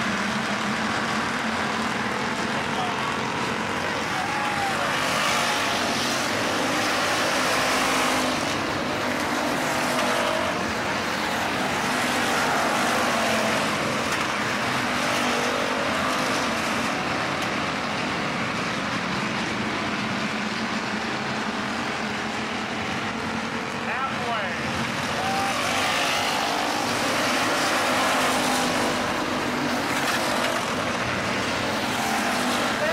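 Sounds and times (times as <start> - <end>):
race car engines passing: 0.0 - 32.9.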